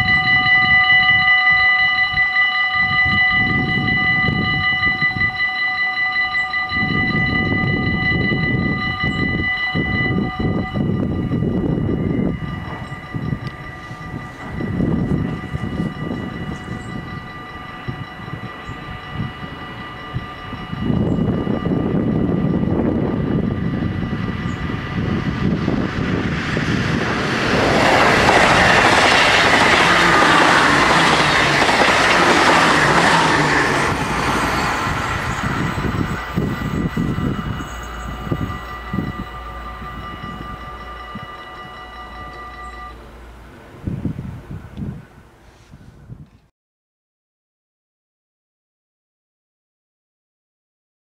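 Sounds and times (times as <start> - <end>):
crossing warning bells ringing: 0.0 - 45.2
electric train passing: 0.0 - 45.4.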